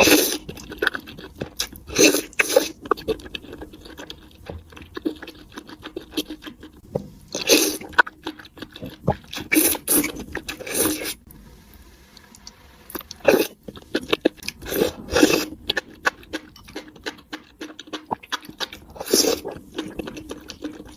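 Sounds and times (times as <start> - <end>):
crunching and chewing food: 0.0 - 11.3, 12.4 - 20.9.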